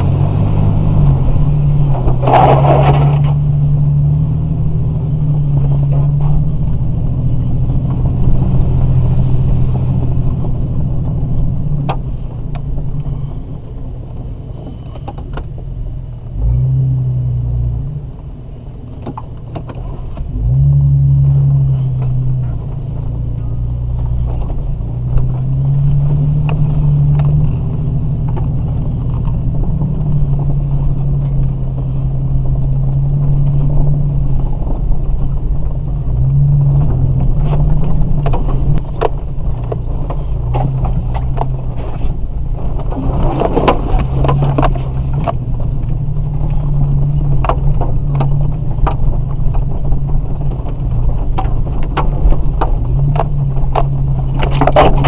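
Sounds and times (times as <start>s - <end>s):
knocks and rattles from bumpy ride: 0.0s - 55.0s
off-road vehicle engine droning: 0.0s - 55.0s.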